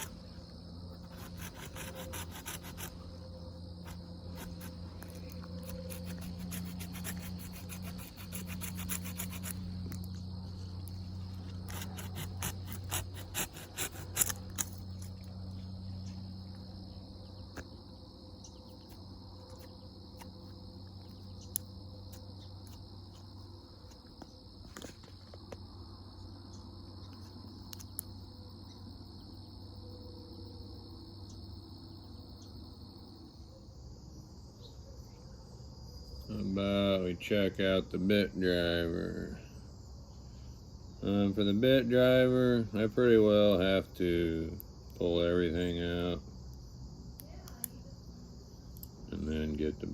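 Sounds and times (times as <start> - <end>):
crickets trilling: 0.0 - 49.9
low steady hum: 0.0 - 49.9.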